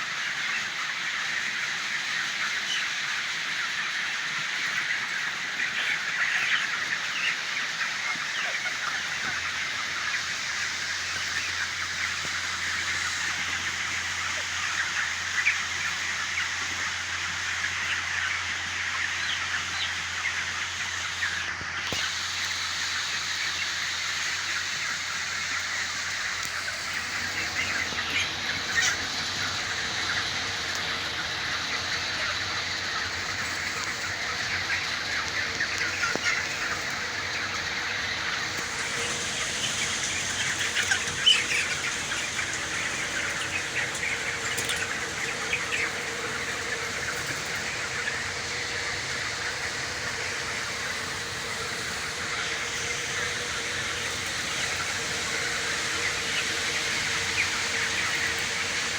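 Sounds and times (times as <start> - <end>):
chicks cheeping in chorus: 0.0 - 58.9
louder chicken calls: 0.0 - 58.9.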